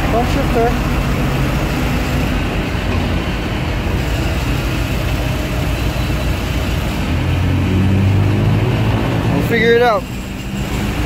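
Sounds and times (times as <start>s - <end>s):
traffic engines humming: 0.0s - 11.0s.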